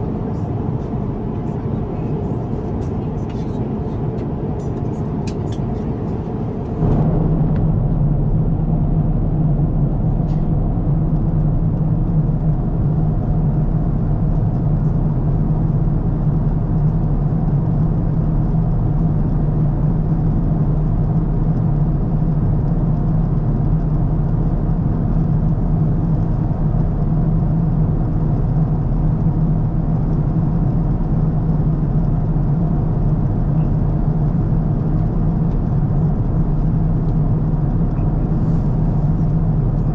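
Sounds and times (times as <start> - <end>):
airliner cabin drone: 0.0 - 16.8, 23.0 - 39.9.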